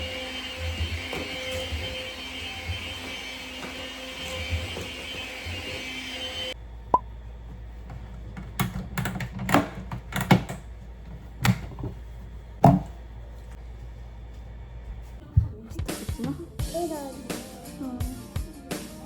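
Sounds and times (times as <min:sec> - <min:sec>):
appliance motor hum: 0:00.0 - 0:15.9.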